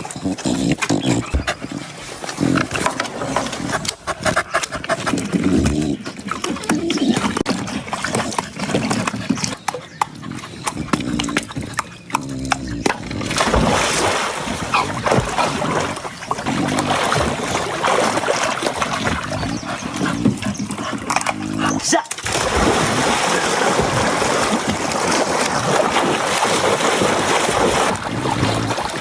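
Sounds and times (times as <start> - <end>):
water splashing: 0.0 - 29.0.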